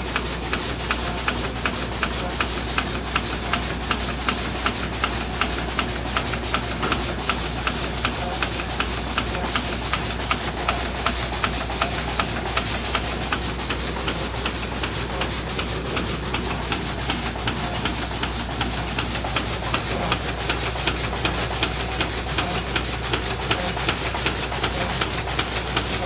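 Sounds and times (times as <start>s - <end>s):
engine clicking and knocking: 0.0s - 26.0s.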